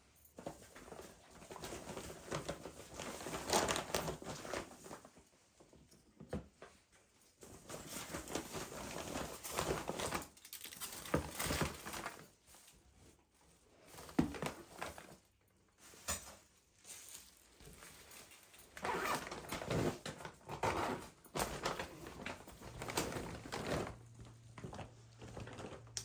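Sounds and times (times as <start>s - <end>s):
rustling and crinkling: 0.0s - 26.0s.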